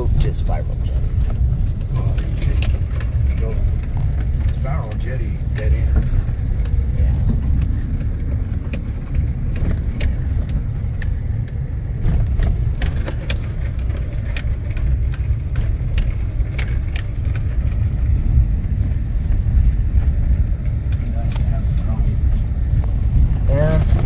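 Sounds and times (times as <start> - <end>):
rattles and clicks: 0.0 - 24.0
vehicle cabin rumble: 0.0 - 24.0.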